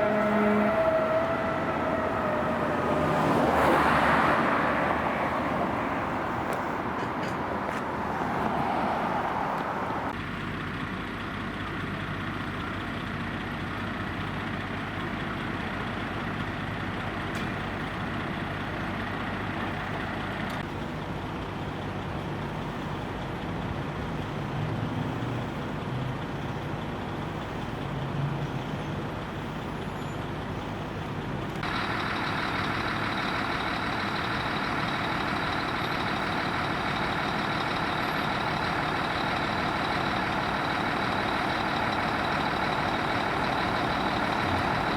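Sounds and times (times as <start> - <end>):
heavy truck engine running: 0.0 - 44.9.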